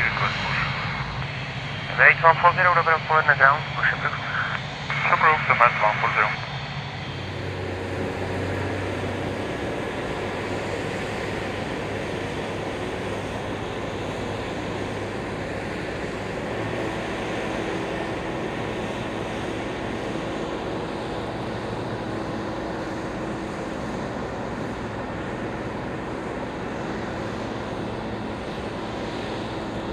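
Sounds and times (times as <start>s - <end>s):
jet airliner rushing: 0.0s - 29.9s.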